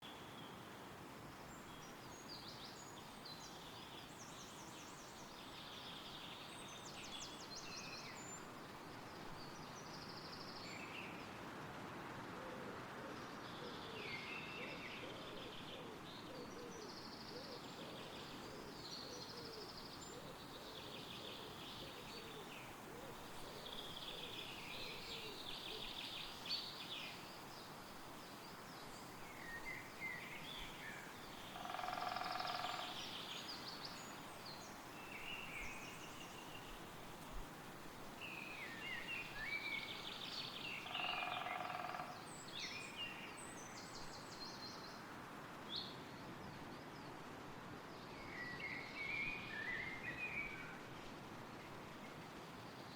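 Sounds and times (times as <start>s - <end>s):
songbirds singing: 0.0s - 11.4s, 13.2s - 51.3s
wind rustling through trees: 0.0s - 52.9s.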